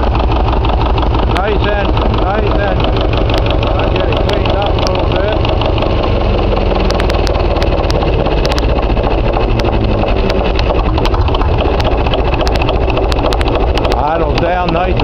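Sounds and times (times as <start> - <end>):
diesel engine idling: 0.0 - 15.0
sharp clicks: 0.8 - 15.0.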